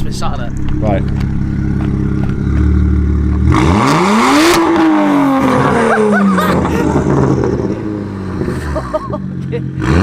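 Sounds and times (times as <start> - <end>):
loud car engine idling and revving: 0.0 - 10.0.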